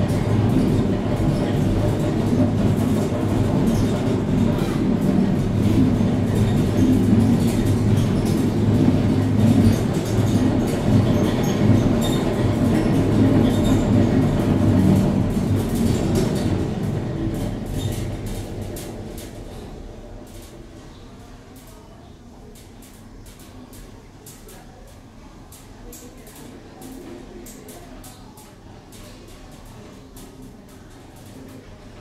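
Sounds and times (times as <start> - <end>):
funicular car rumbling on rails: 0.0 - 32.0.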